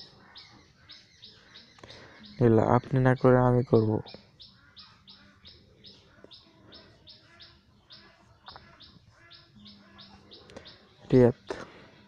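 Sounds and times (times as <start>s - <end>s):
faint bird chirping: 0.0s - 12.0s.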